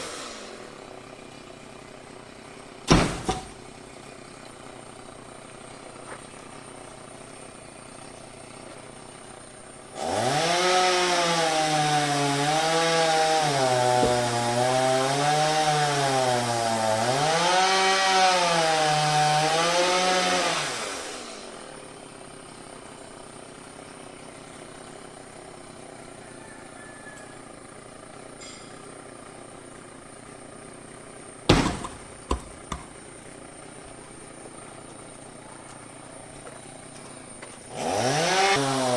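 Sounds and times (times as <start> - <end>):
chainsaw revving: 0.0 - 26.2, 29.8 - 36.2, 37.3 - 38.9.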